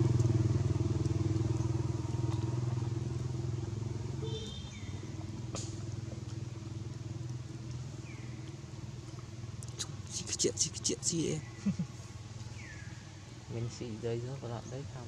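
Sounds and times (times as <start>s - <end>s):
motor engine humming: 0.0s - 13.4s.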